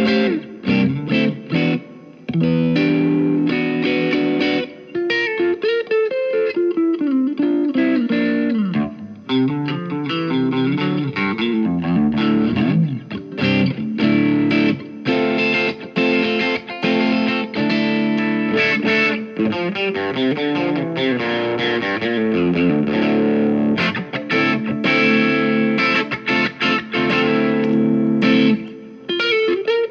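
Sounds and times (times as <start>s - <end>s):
lightly overdriven electric guitar: 0.0s - 29.9s.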